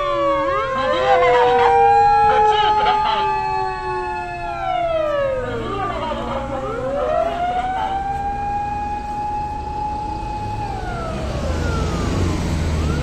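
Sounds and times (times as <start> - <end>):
fire engine siren wailing: 0.0 - 13.0
truck engine rumble: 0.0 - 13.0.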